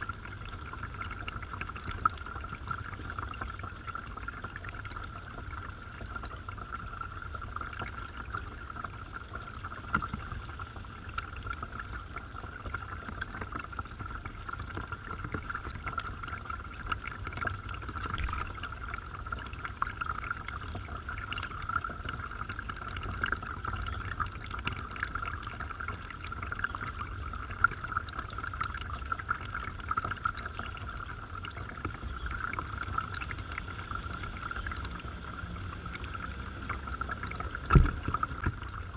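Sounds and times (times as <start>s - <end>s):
garden waterfall pouring: 0.0s - 38.9s
small water splashes: 0.0s - 38.9s.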